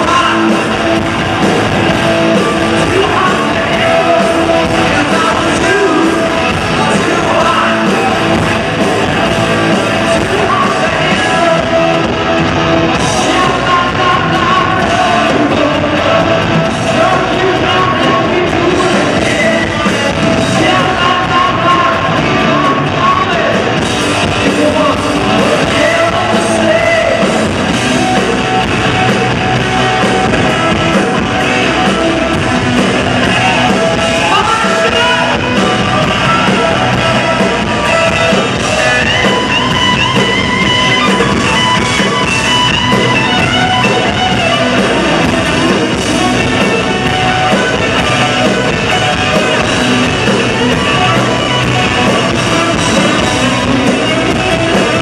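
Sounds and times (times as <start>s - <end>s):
man singing: 0.0s - 28.7s, 32.8s - 40.4s, 41.0s - 55.0s
bass guitar: 0.0s - 55.0s
distorted electric guitar: 0.0s - 55.0s
drums: 0.0s - 55.0s
lead guitar lines: 0.0s - 55.0s.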